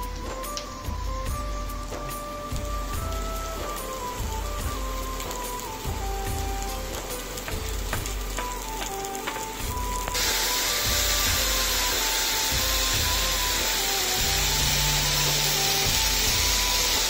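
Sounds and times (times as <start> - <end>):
mushrooms sizzling in oil: 0.0 - 17.0.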